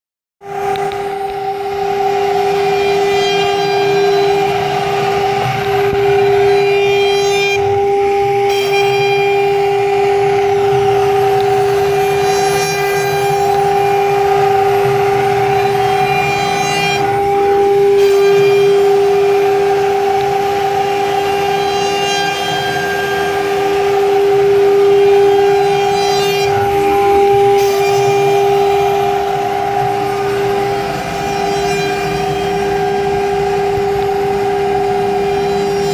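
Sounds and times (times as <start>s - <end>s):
router bit rasping wood: 0.4s - 35.9s
router spindle high whine: 0.4s - 35.9s.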